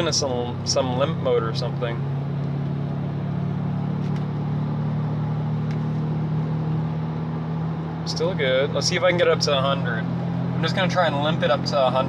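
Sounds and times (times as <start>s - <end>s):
car engine pulling steadily: 0.0s - 12.0s
road noise: 0.0s - 12.0s.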